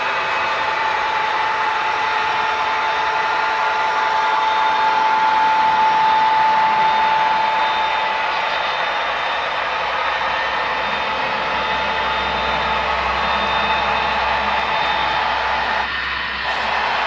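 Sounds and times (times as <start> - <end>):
high-pitched whine: 0.0 - 17.0
model train wheels rumbling: 0.0 - 17.0.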